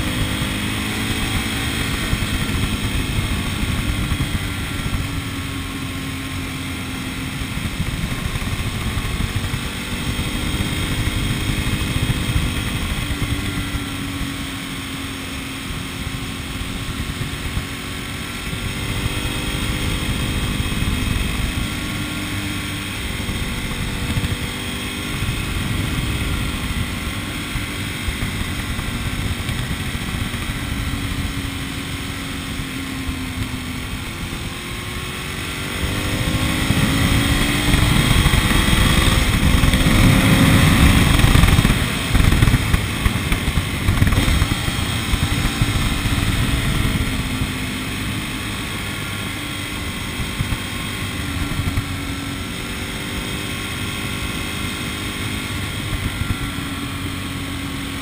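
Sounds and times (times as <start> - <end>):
road noise rumble: 0.0 - 58.0
vehicle engine running: 0.0 - 58.0.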